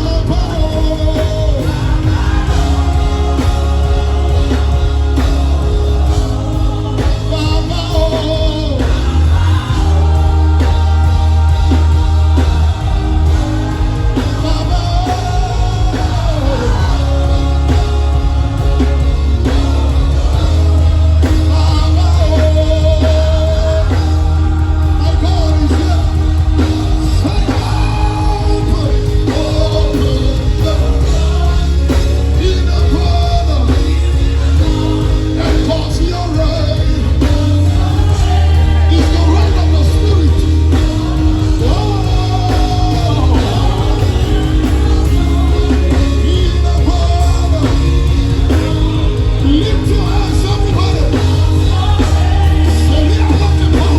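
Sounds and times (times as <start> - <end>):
band with heavy bass: 0.0 - 53.9
lead vocalist singing: 0.0 - 53.9.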